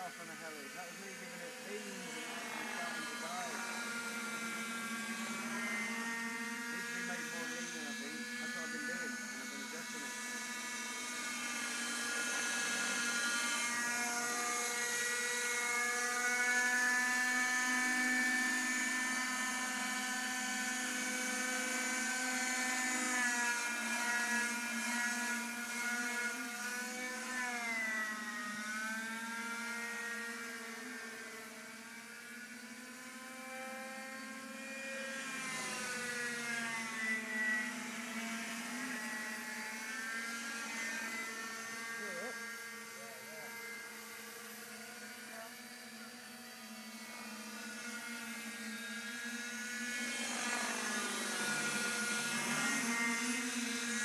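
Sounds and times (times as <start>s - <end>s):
model helicopter rotor whine: 0.0s - 54.0s.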